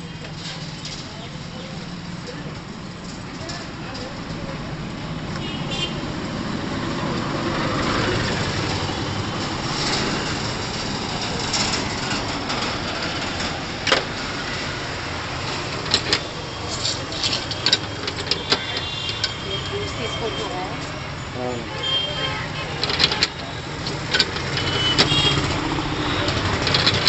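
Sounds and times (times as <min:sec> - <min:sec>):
road traffic rumbling: 0:00.0 - 0:27.0.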